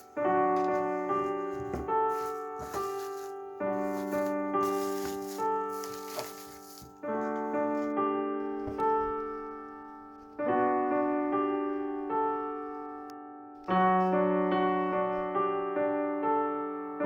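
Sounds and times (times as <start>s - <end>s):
piano chords and notes: 0.0s - 17.0s.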